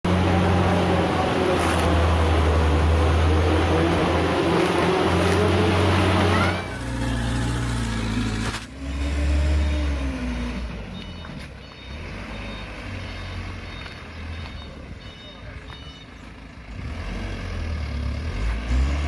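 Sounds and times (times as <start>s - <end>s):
dump truck engine running: 0.0s - 19.0s.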